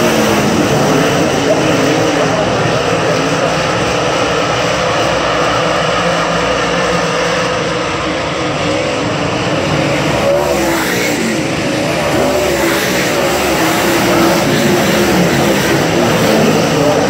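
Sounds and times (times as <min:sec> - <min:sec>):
race car engines roaring: 0:00.0 - 0:17.0.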